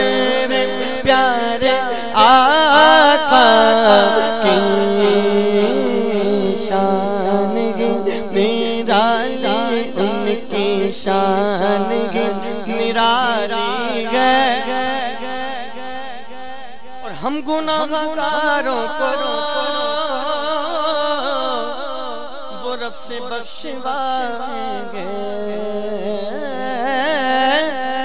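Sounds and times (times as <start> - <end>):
man singing through a microphone: 0.0 - 28.0.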